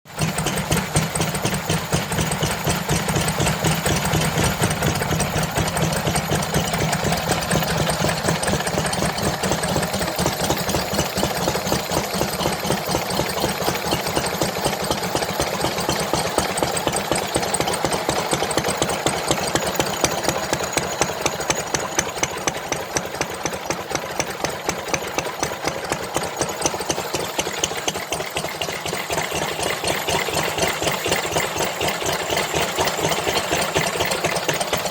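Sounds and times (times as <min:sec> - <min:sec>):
engine running steadily: 0:00.1 - 0:34.9.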